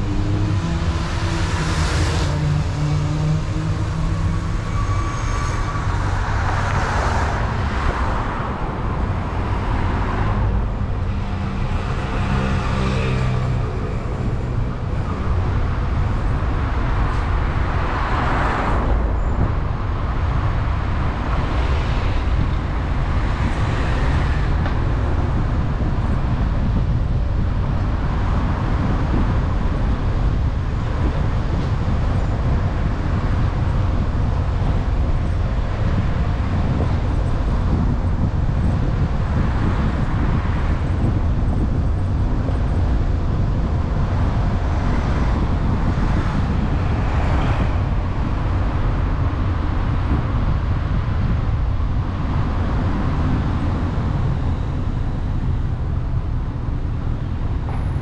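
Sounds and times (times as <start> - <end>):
passing traffic: 0.0 - 58.0.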